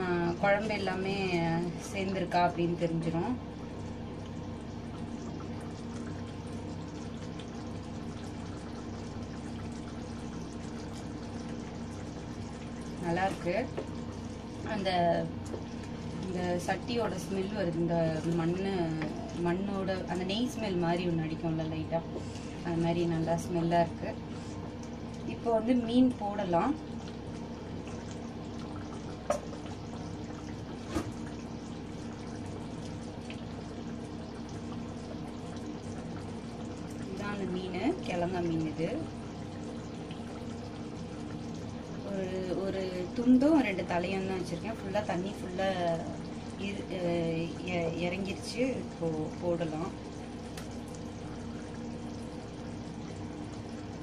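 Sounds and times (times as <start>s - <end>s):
curry bubbling in pot: 0.0s - 54.0s
low even hum: 0.0s - 54.0s
steady watery sound: 0.0s - 54.0s.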